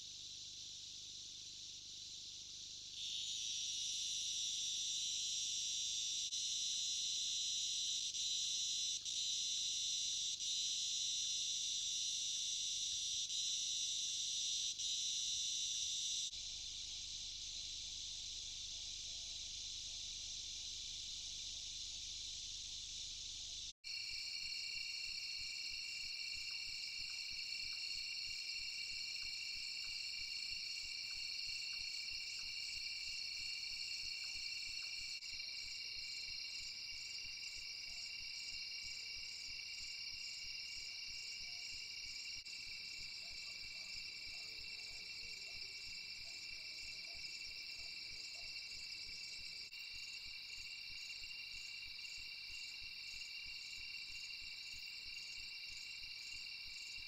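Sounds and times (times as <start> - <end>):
crickets and insects trilling: 0.0 - 57.0
fast pulsing insect trill: 0.0 - 57.0.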